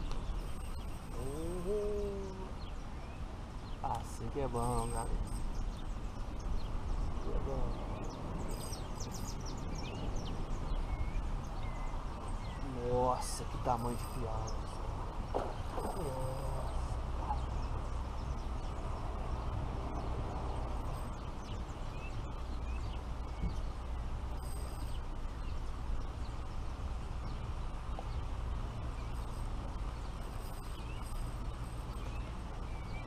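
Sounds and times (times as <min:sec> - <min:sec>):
faint high bird chirps: 0:00.0 - 0:14.8, 0:15.5 - 0:18.5, 0:20.8 - 0:26.4, 0:28.8 - 0:33.0
low outdoor rumble: 0:00.0 - 0:33.0.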